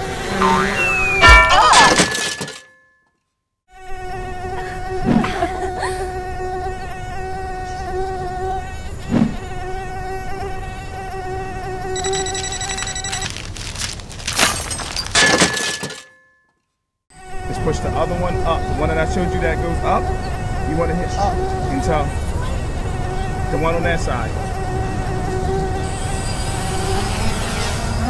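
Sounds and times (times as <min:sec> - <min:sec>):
drone propellers buzzing: 0:00.0 - 0:02.6, 0:03.9 - 0:13.8, 0:17.2 - 0:28.0.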